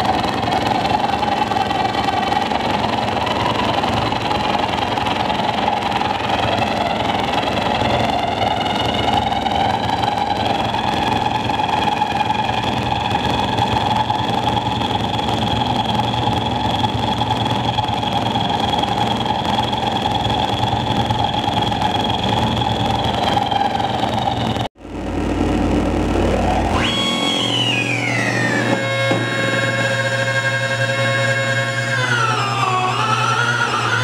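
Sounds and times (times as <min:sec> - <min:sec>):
harsh electronic noise with whining tones: 0:00.0 - 0:34.0
low hum: 0:00.0 - 0:34.0.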